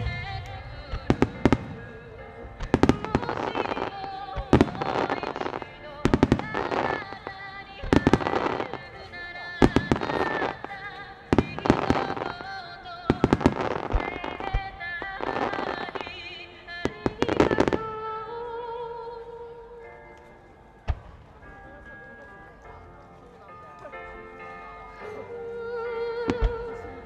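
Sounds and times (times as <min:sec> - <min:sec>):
music: 0:00.0 - 0:27.0.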